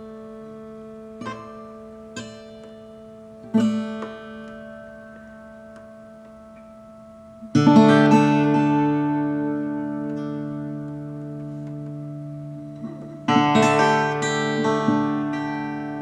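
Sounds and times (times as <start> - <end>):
plucked guitar notes: 0.0 - 16.0
strummed guitar chord: 0.0 - 16.0.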